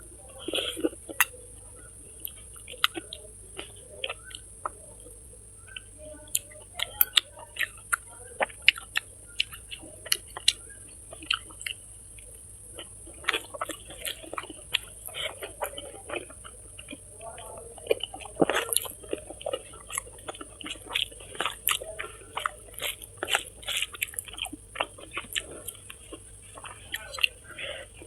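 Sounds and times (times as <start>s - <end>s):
chewing and biting smacks: 0.3s - 1.5s, 2.2s - 4.8s, 5.7s - 28.0s.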